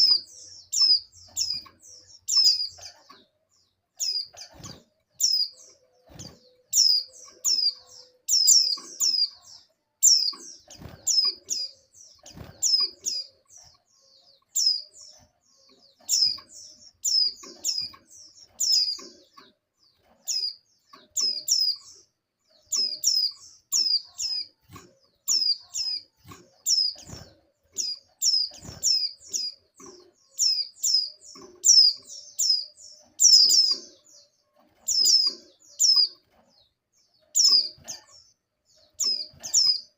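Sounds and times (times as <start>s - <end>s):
high downward-sweeping bird chirps: 0.0s - 39.9s.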